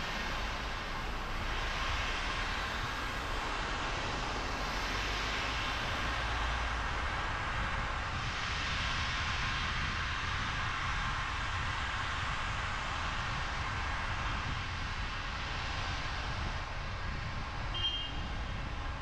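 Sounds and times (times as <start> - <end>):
tyres hissing on wet road: 0.0 - 16.8
low road rumble: 0.0 - 19.0.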